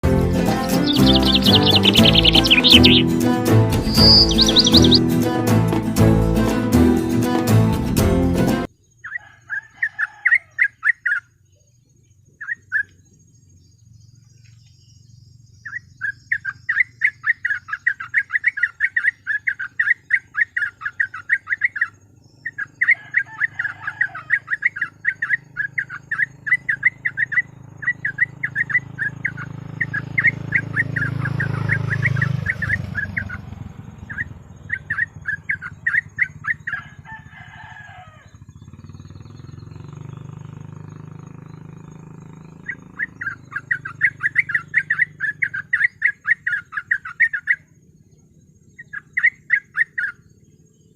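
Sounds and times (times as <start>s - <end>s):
bird chattering song: 0.4s - 5.3s, 8.6s - 50.9s.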